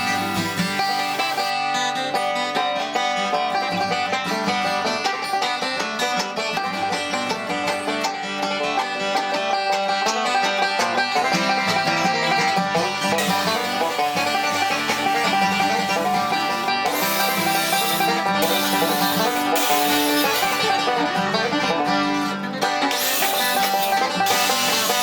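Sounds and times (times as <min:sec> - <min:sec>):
bluegrass music with banjo and guitar: 0:00.0 - 0:25.0.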